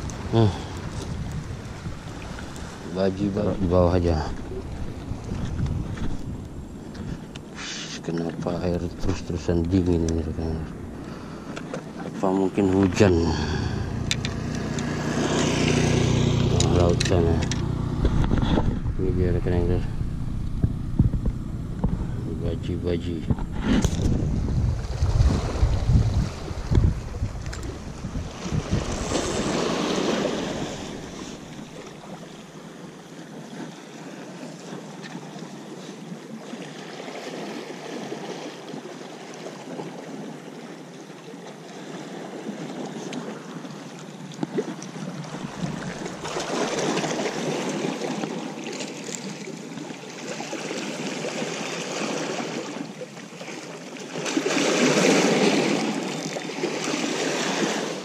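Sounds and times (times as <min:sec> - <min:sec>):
surf washing against shore: 0:00.0 - 0:58.0
wind: 0:00.0 - 0:58.0.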